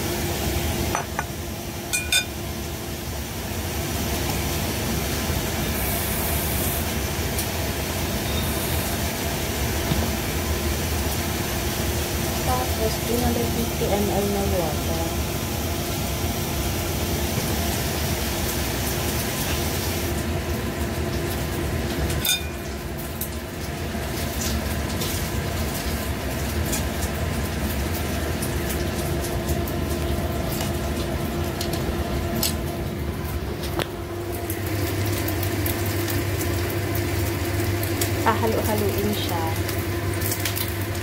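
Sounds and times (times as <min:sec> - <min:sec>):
mechanical hum: 0:00.0 - 0:41.0.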